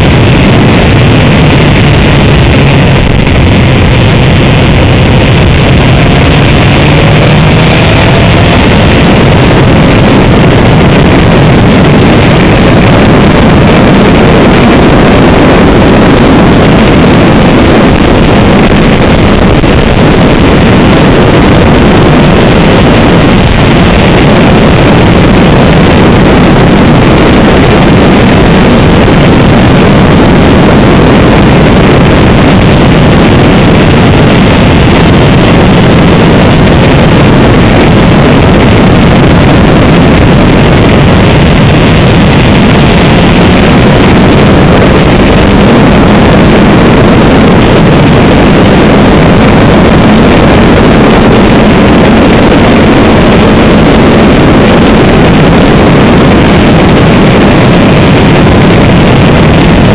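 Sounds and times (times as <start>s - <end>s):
motorcycle engine running: 0.0s - 48.1s
wind rush over microphone: 0.0s - 59.9s.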